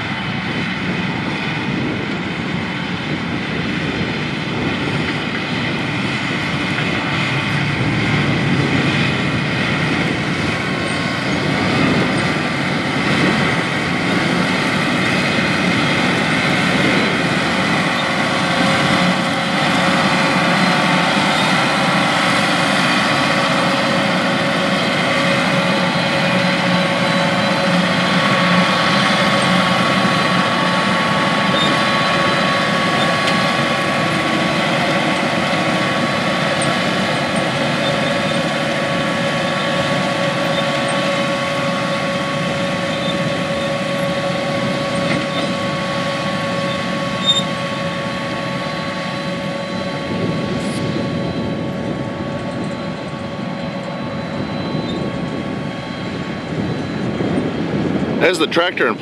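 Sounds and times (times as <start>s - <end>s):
steady whining tones: 0.0s - 59.0s
tractor diesel engine drone: 0.0s - 59.0s.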